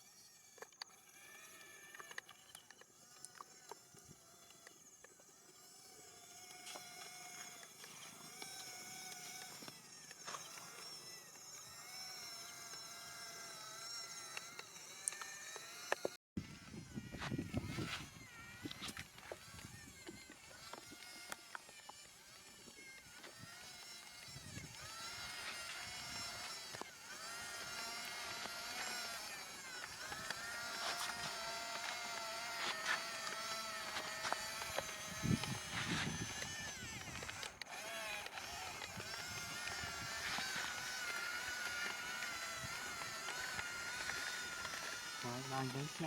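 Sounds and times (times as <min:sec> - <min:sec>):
small electric motors whining: 0:00.0 - 0:46.0.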